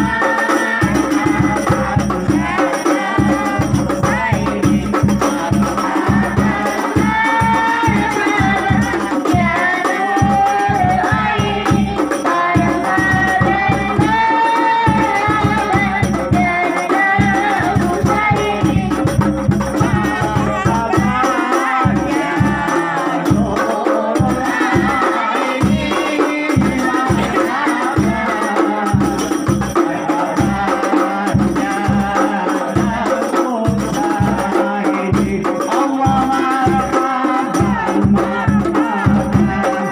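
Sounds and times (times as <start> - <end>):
hand percussion with jingles: 0.0 - 39.9
voices singing devotional song: 0.0 - 39.9.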